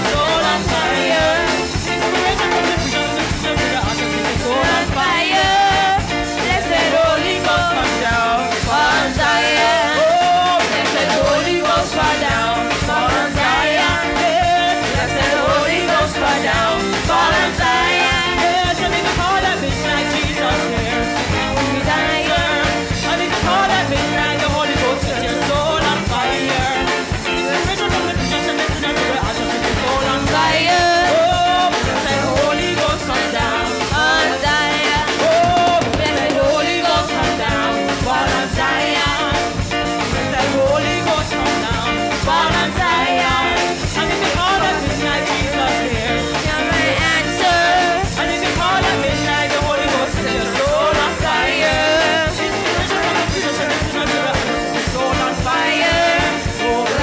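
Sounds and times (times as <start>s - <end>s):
drum kit: 0.0s - 57.0s
women singing gospel: 0.0s - 57.0s.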